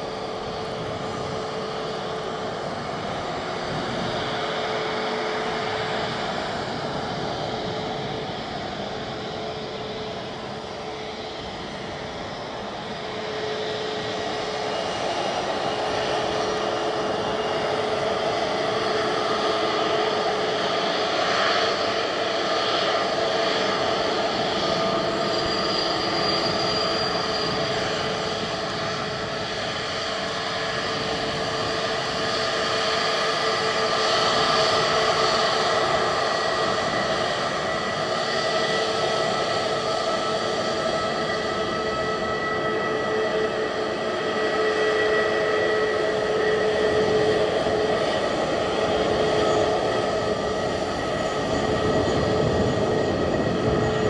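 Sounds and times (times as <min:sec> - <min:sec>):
jet engines taxiing: 0:00.0 - 0:54.0.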